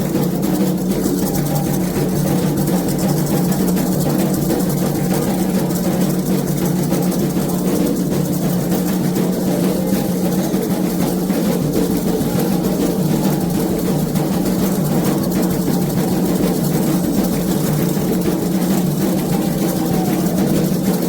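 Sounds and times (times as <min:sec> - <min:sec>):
hand drums playing a rhythm: 0:00.0 - 0:21.0.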